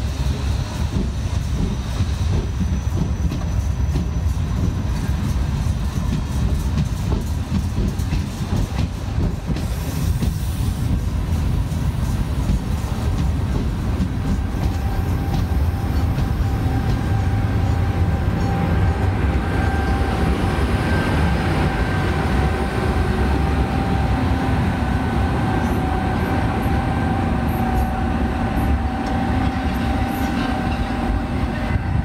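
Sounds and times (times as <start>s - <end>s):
train low rumble: 0.0s - 32.0s
train whine: 0.0s - 32.0s.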